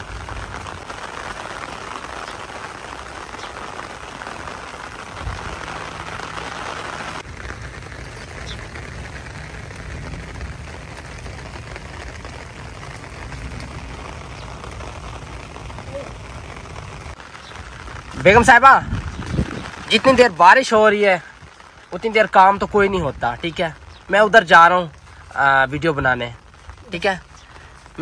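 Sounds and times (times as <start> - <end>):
heavy rain through tree branches: 0.0 - 28.0
rain pattering into puddle: 0.0 - 28.0.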